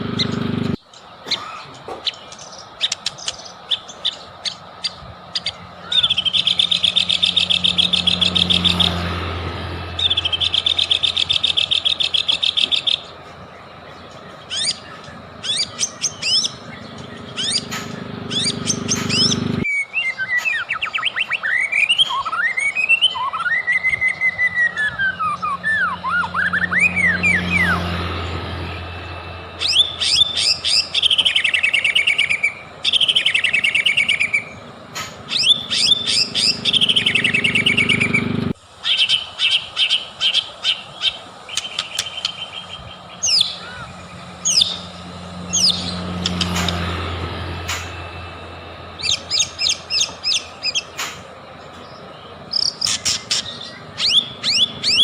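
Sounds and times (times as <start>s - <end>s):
bird singing whistles and trills: 2.0s - 55.0s.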